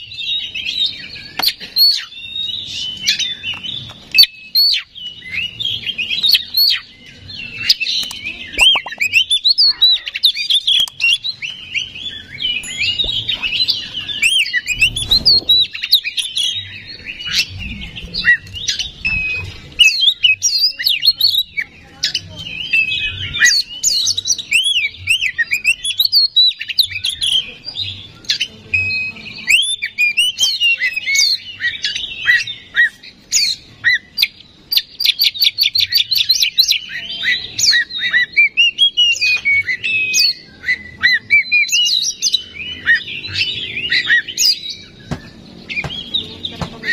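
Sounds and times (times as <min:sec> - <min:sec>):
bird singing chirps and whistles: 0:00.0 - 0:46.9.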